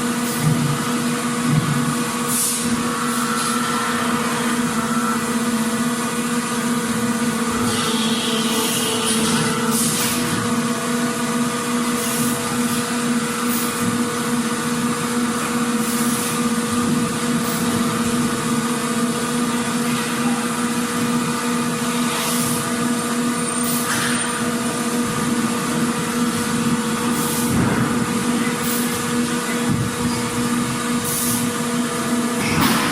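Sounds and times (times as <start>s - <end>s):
factory machinery hum: 0.0s - 32.9s.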